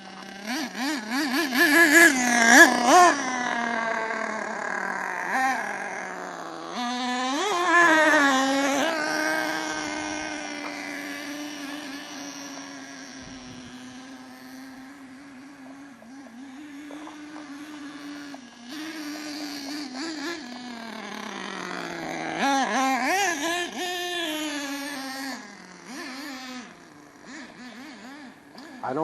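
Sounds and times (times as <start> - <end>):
rc truck nitro engine running: 0.0 - 29.0.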